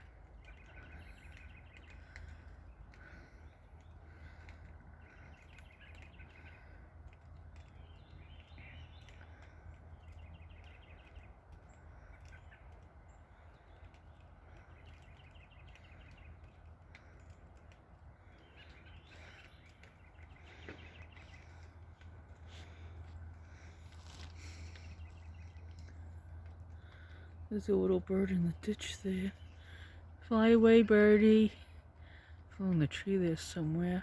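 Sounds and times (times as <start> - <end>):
birds chirping trills: 0.0 - 34.0
steady low hum: 0.0 - 34.0.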